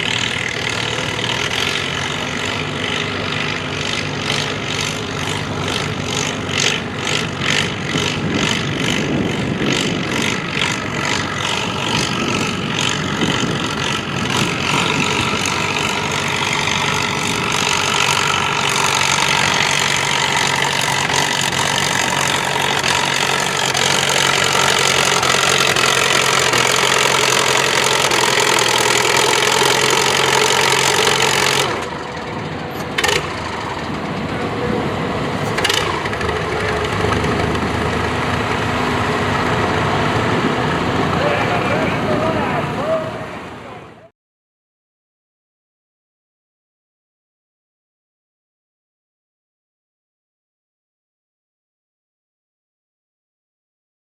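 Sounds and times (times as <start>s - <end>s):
tractor engine running and revving: 0.0s - 44.1s.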